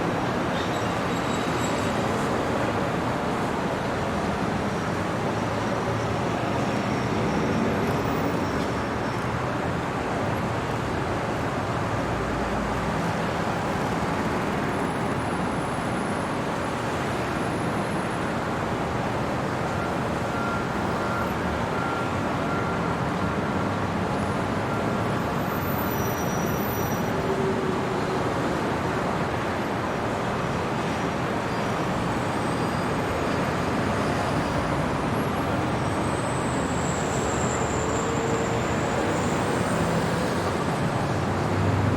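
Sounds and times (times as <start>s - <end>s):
city traffic hum: 0.0s - 41.9s.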